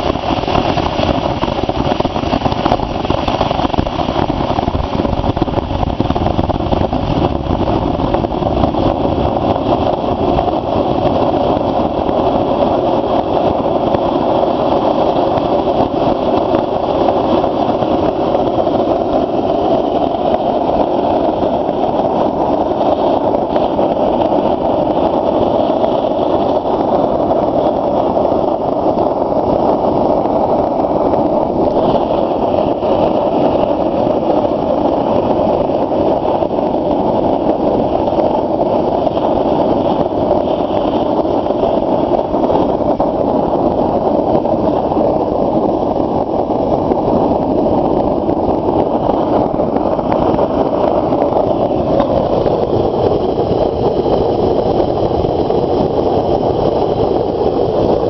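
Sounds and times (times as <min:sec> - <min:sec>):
furnace burner flame rushing: 0:00.0 - 0:58.0.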